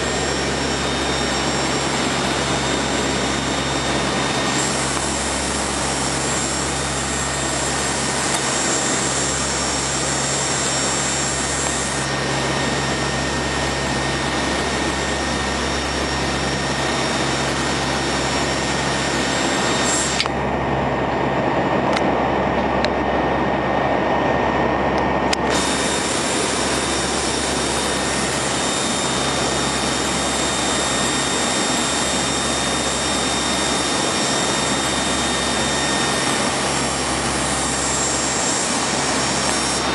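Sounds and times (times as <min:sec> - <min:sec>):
turboprop engines in cockpit: 0:00.0 - 0:39.9.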